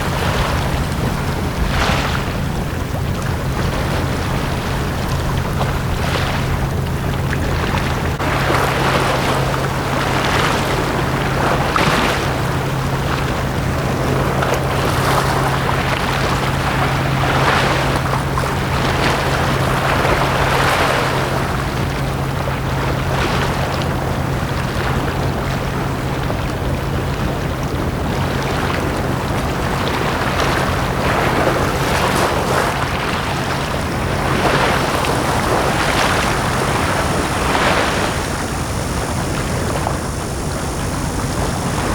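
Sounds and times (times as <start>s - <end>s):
small waves washing onto beach: 0.0s - 41.9s
steady low hum: 0.0s - 41.9s.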